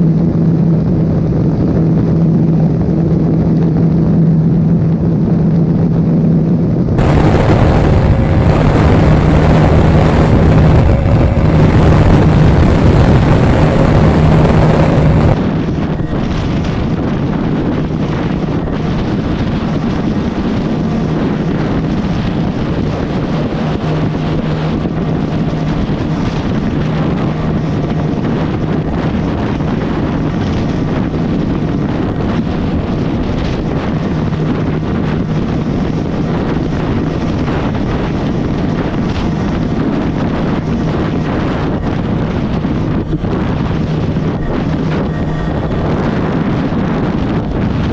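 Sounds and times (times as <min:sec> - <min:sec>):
motorcycle engine droning: 0:00.0 - 0:47.9
wind buffeting microphone: 0:00.0 - 0:47.9.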